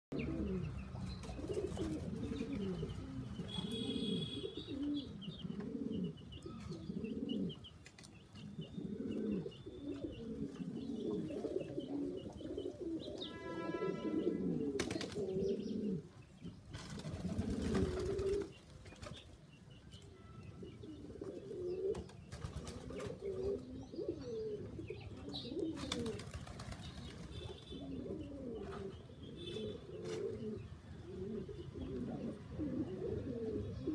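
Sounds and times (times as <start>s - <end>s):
pigeons cooing: 0.1s - 19.2s, 20.4s - 33.9s.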